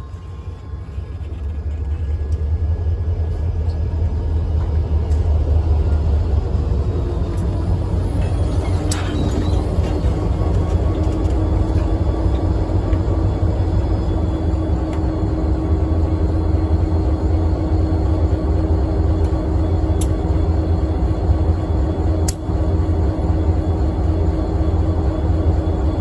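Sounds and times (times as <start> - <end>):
diesel locomotive engines rumbling: 0.0 - 26.0.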